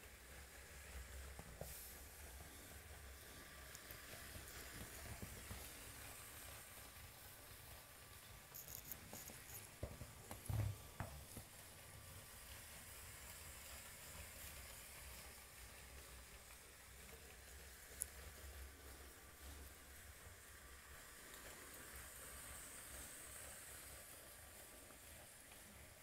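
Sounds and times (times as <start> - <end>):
toy train rolling on plastic track: 0.0 - 26.0.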